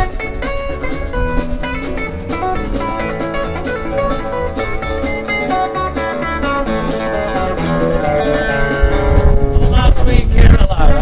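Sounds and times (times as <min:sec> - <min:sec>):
steady drum beat: 0:00.0 - 0:10.3
lead guitar: 0:00.0 - 0:11.0
live country band playing: 0:00.0 - 0:11.0.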